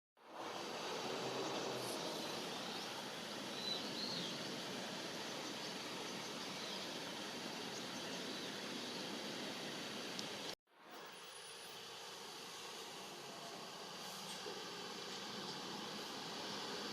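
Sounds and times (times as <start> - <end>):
flowing river water: 0.2 - 10.6, 11.4 - 16.9.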